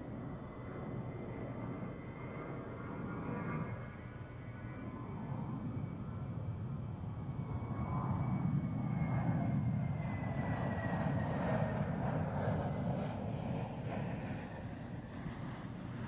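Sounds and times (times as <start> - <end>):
jet aircraft flying past: 0.0 - 16.0.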